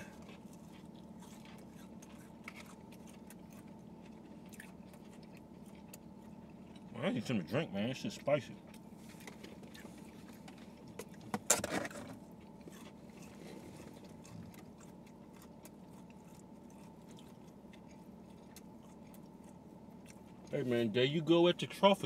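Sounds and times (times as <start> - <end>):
low background hum: 0.0 - 22.0
people chewing food: 0.0 - 22.0.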